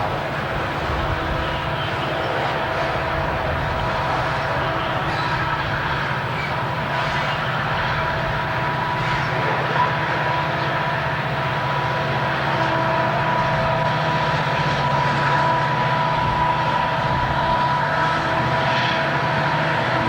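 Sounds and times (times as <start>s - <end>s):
diesel locomotive engine drone: 0.0s - 20.0s
high steady whine: 0.0s - 20.0s.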